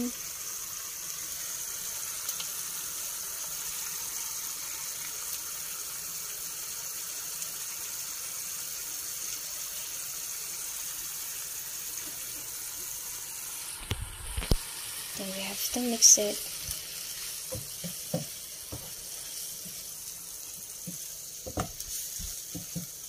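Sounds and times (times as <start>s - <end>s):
broth bubbling in a pan: 0.0s - 23.0s.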